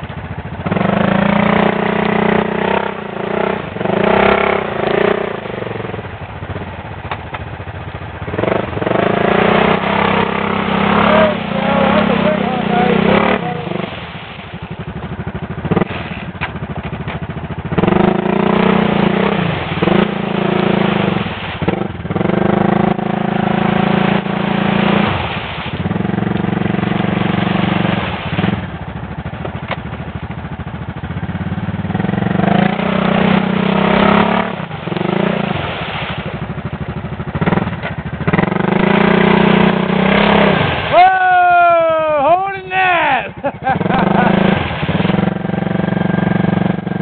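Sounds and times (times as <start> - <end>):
atv engine revving: 0.0 - 47.0.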